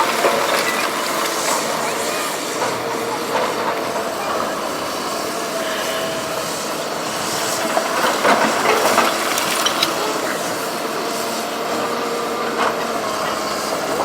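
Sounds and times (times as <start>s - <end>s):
excavator running: 0.0s - 14.0s.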